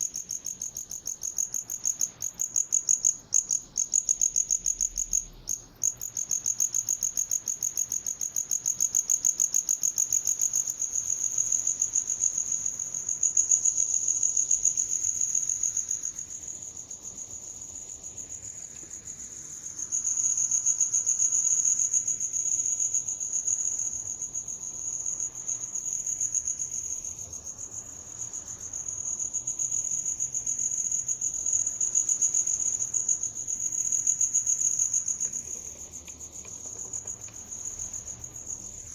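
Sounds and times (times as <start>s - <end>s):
cricket chirping in fast trill: 0.0s - 38.9s.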